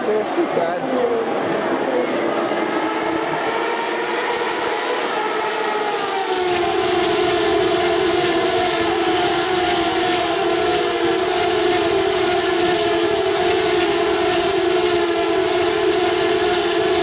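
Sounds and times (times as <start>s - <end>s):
race car engines whining past: 0.0s - 17.0s.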